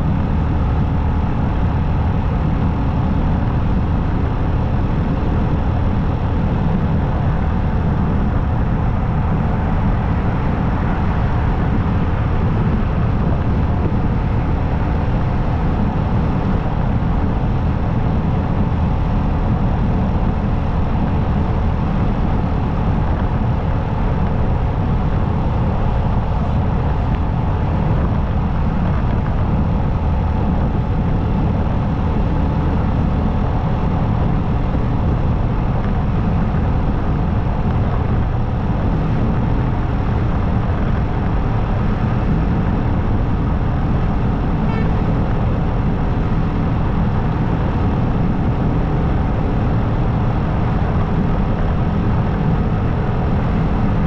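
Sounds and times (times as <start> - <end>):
motorcycle engine running steadily: 0.0 - 54.0
road noise rushing: 0.0 - 54.0.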